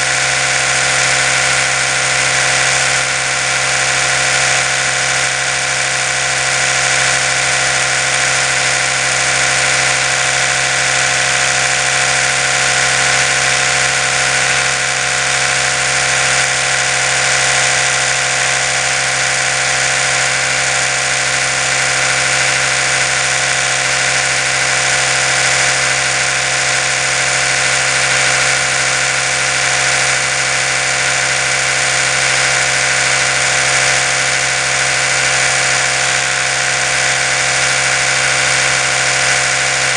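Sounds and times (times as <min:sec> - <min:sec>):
electric toothbrush humming: 0:00.0 - 0:39.9.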